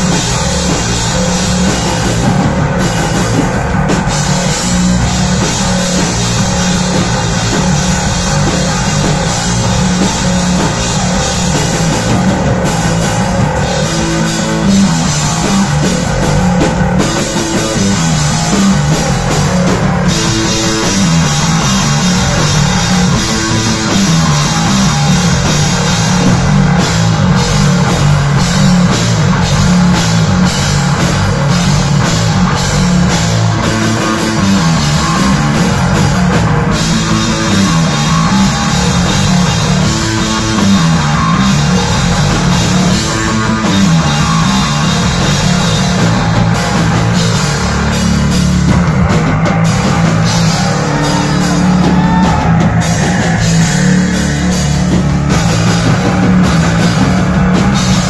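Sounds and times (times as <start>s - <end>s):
drum kit: 0.0s - 58.0s
electric bass guitar: 0.0s - 58.0s.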